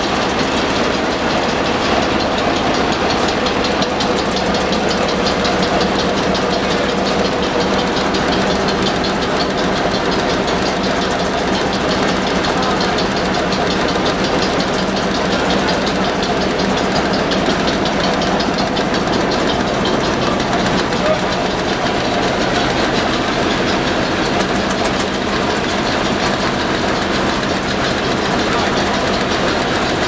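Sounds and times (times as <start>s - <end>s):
stationary engine knocking: 0.0s - 30.0s.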